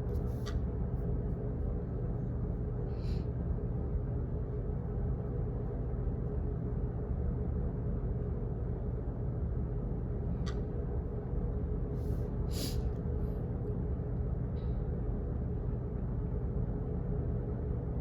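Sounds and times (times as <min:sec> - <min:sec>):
low hum and rumble: 0:00.0 - 0:18.0.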